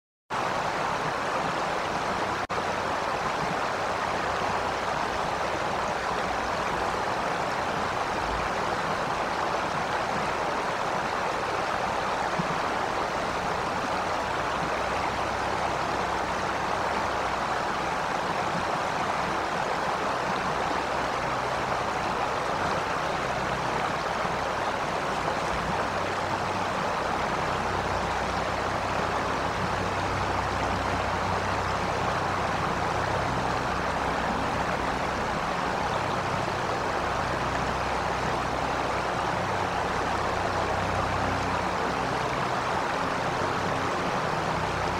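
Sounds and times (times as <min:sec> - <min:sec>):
steady rushing noise: 0:00.3 - 0:44.9.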